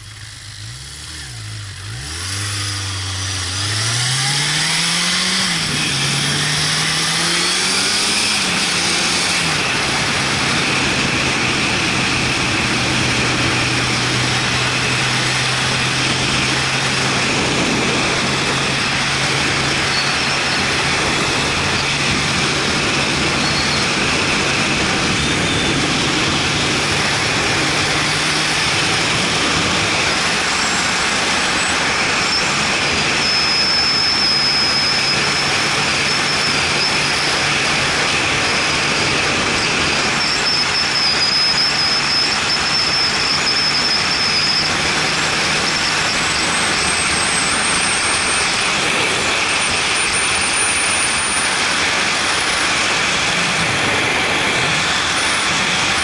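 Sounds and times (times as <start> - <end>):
engine hum: 0.0 - 56.0
wind and road noise: 0.0 - 56.0.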